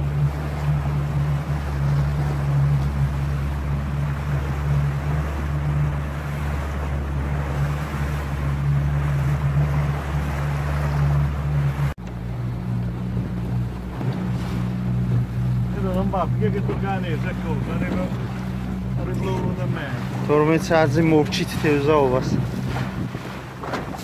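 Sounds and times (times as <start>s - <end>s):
motorboat engine running: 0.0s - 24.0s
wind and water rushing: 0.0s - 24.0s.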